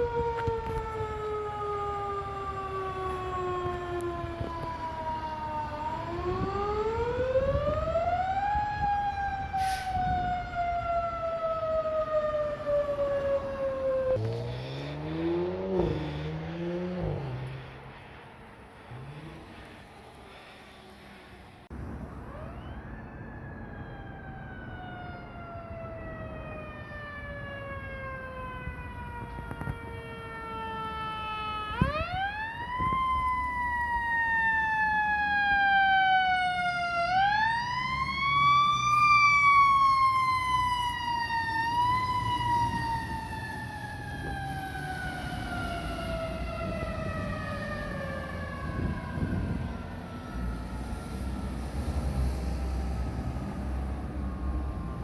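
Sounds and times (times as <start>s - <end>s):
mechanical fire truck siren: 0.0s - 17.6s, 22.0s - 55.0s.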